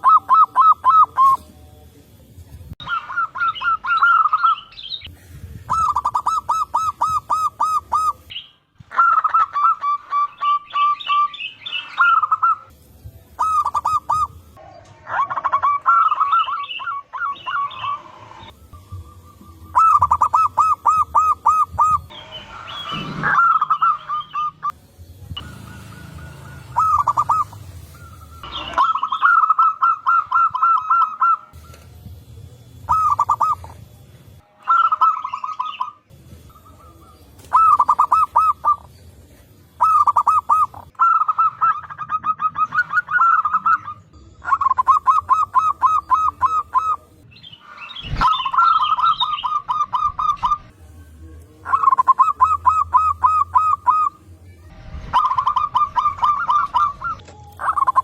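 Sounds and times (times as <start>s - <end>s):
doves cooing: 0.0s - 1.5s, 2.8s - 12.7s, 13.4s - 24.8s, 25.4s - 31.8s, 32.9s - 33.8s, 34.7s - 38.9s, 39.7s - 47.2s, 51.6s - 54.3s, 55.0s - 58.0s.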